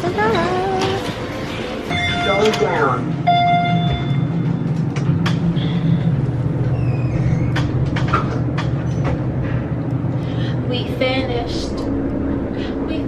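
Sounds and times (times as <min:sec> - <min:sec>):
elevator low rumble: 0:00.0 - 0:13.0.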